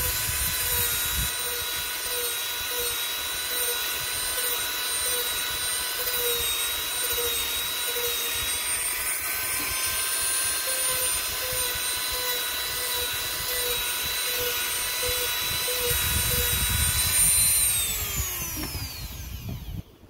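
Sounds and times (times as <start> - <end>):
rotary tool whining: 0.0 - 20.0.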